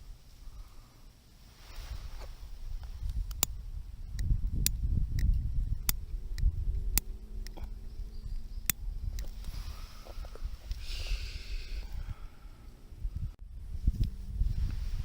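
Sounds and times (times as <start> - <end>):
low fire rumble: 0.0 - 15.0.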